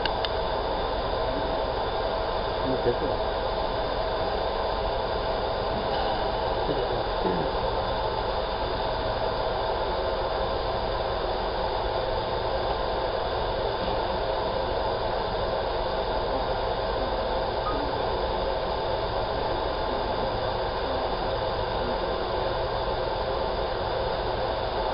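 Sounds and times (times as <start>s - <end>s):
faint hum: 0.0s - 24.9s.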